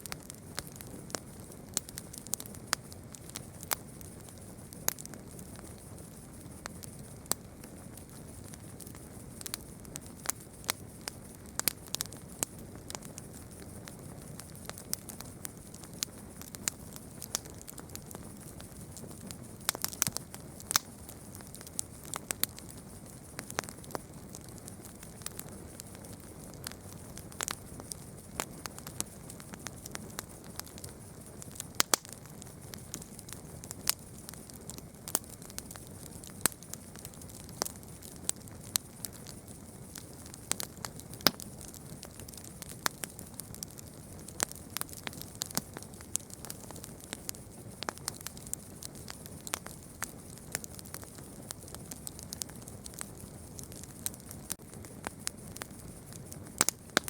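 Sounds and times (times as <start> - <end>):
campfire wood crackling and popping: 0.0 - 57.0.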